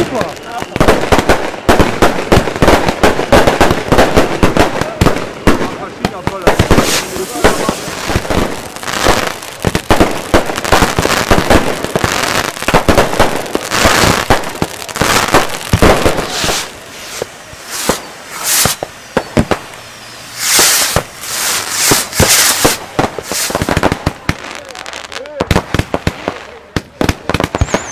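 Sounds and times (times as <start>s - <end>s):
fireworks bangs and crackling: 0.0s - 27.9s
fireworks hissing bursts: 0.0s - 27.9s.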